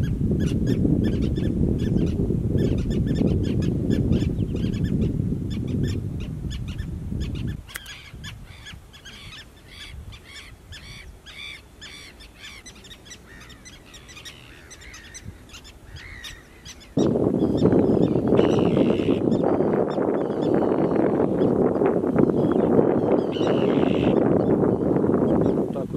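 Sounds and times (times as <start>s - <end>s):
terns calling: 0.0s - 25.8s.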